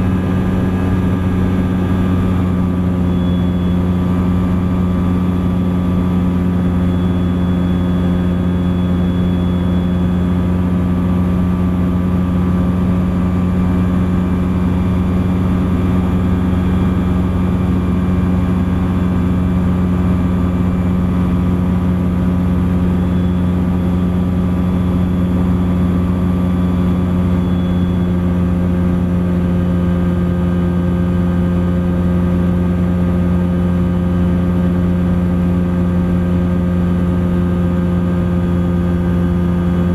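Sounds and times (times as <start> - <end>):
ultralight aircraft engine droning: 0.0 - 39.9.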